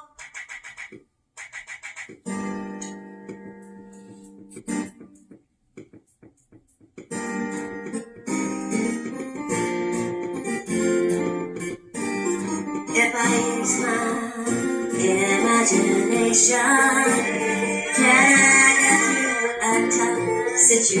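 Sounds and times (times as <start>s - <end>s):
acoustic guitar strumming: 0.0s - 6.2s, 7.0s - 21.0s.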